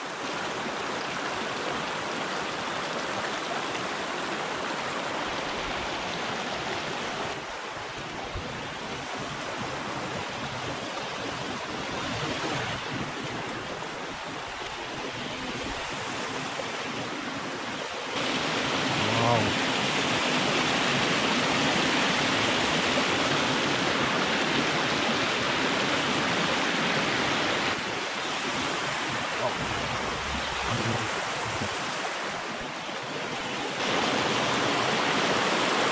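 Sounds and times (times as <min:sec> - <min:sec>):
stream rushing over stones: 0:00.0 - 0:35.9.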